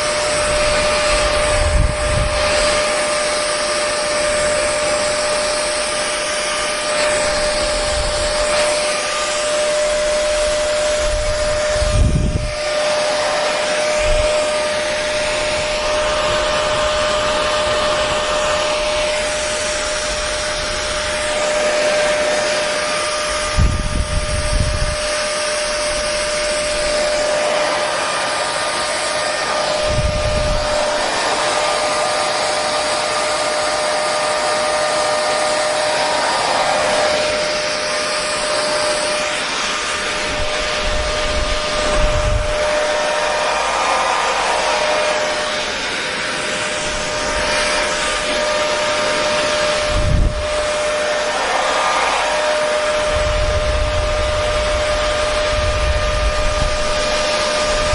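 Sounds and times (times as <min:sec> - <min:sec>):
hair dryer running: 0:00.0 - 0:57.9.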